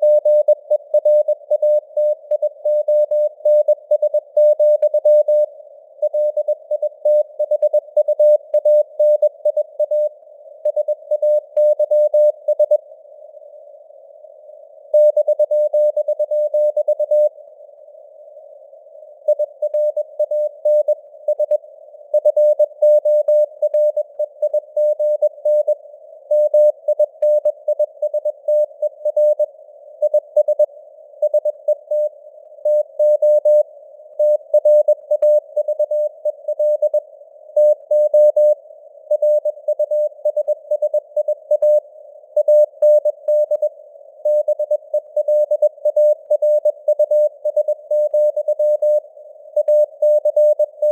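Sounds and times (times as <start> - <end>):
morse code beep tone: 0.0 - 10.1, 10.7 - 12.8, 15.0 - 17.3, 19.3 - 33.6, 34.2 - 37.0, 37.6 - 41.8, 42.4 - 49.0, 49.6 - 50.9.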